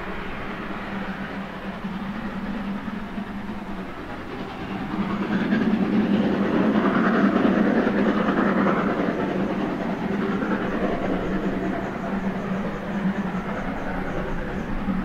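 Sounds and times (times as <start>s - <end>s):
approaching train running: 0.0s - 15.0s.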